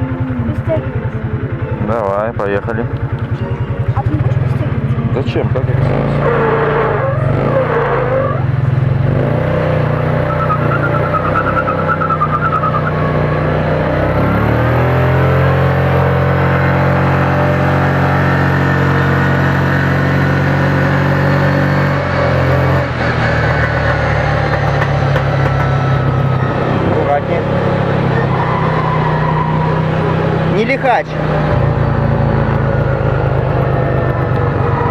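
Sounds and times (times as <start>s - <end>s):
small petrol engine revving: 0.0s - 34.9s.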